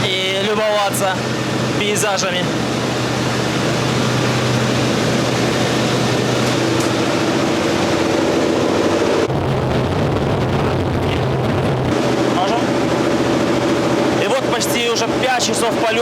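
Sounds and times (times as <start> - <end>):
airframe and air noise: 0.0 - 14.2
radial aircraft engine droning: 0.0 - 16.0.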